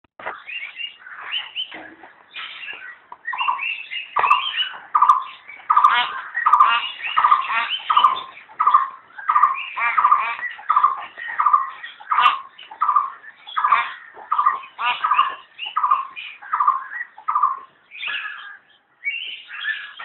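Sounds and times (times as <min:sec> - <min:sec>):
myna calling: 0:00.4 - 0:20.0.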